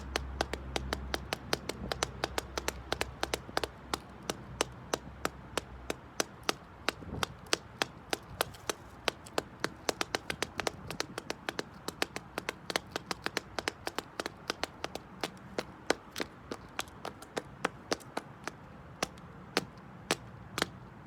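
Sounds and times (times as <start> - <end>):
shoes tapping on concrete: 0.0 - 21.0.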